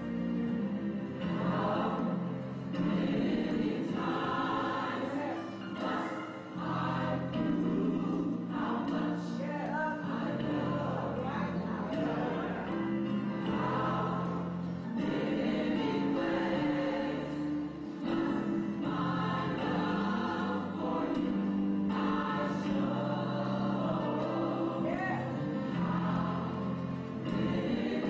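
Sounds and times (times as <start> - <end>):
gospel choir singing: 0.0 - 28.0.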